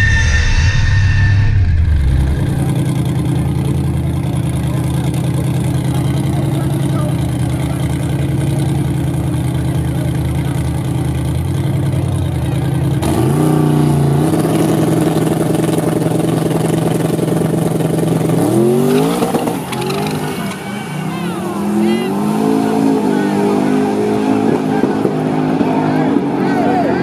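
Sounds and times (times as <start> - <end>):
car engine revving sharply: 0.0 - 27.0
choppy car engine idling: 1.7 - 27.0.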